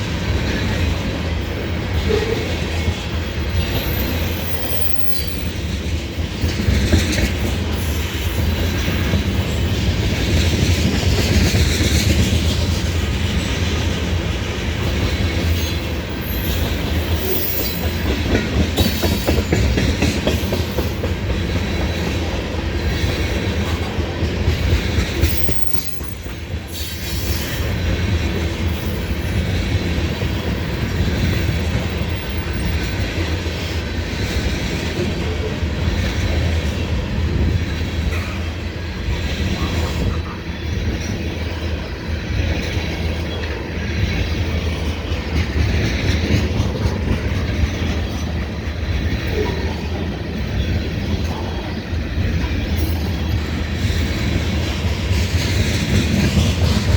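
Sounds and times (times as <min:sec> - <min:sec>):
train wheels rumbling and clacking: 0:00.0 - 0:56.9.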